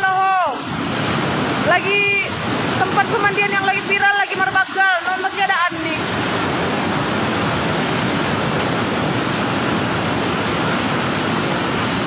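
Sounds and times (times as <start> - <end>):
water rushing over a weir: 0.0 - 12.0.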